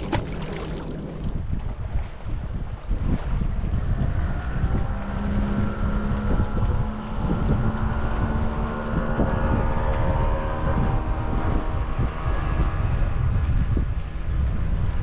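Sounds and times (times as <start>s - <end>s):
boat motor running: 0.0s - 15.0s
wind buffeting microphone: 0.0s - 15.0s.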